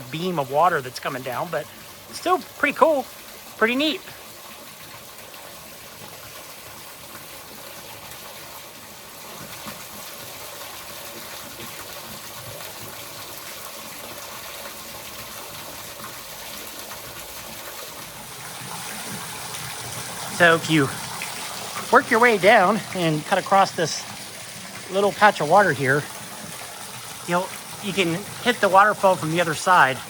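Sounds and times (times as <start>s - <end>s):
small waterfall splashing: 0.0s - 30.0s.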